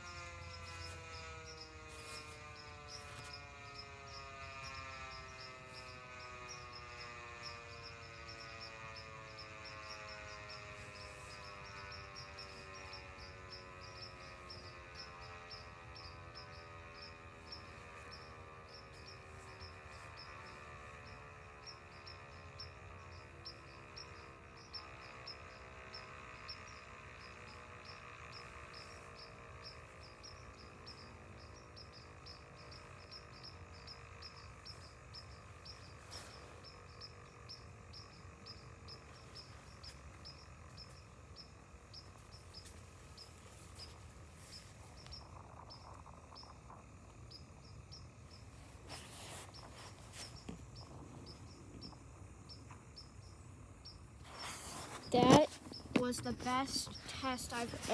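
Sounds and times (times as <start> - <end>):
insects chirping: 0.0 - 57.9.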